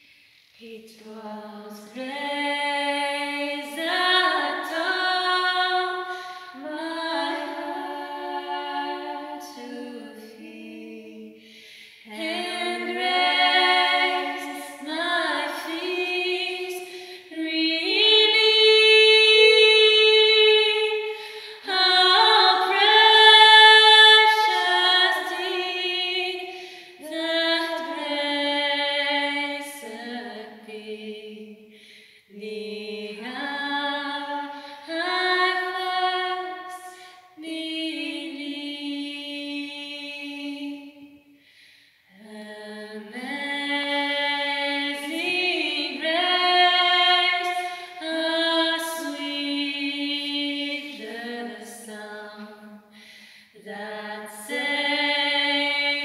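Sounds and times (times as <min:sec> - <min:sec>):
women singing in harmony: 0:00.6 - 0:31.7, 0:32.3 - 0:41.2, 0:42.1 - 0:56.0.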